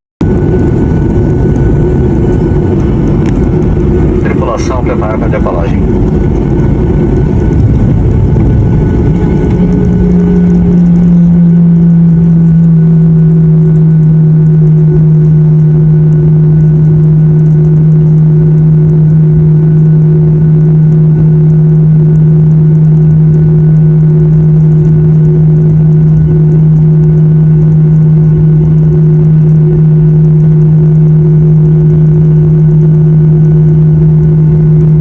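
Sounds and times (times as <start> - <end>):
airliner engines droning in cabin: 0.2 - 35.0.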